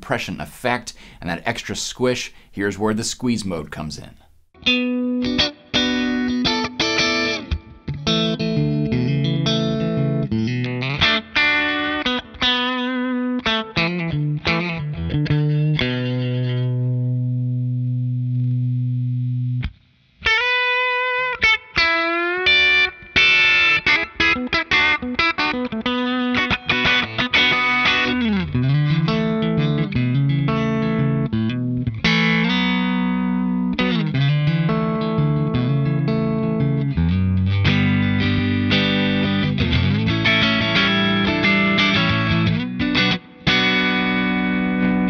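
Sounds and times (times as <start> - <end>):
electric guitar playing: 4.6 - 45.0.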